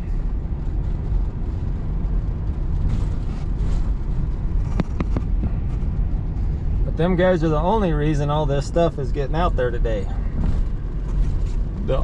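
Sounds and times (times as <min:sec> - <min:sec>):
vehicle driving on snowy road: 0:00.0 - 0:12.0.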